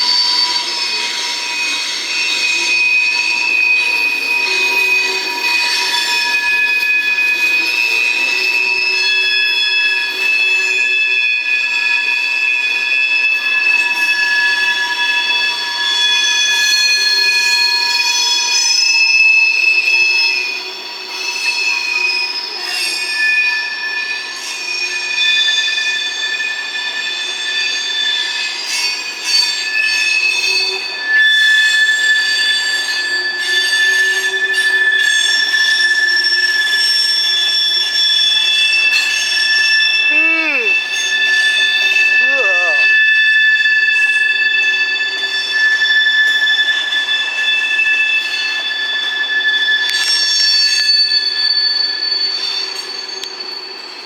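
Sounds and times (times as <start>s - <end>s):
rumble of train cars: 0.0s - 18.6s, 19.2s - 39.8s, 43.4s - 54.0s
train wheels squealing: 0.0s - 40.1s, 42.9s - 54.0s.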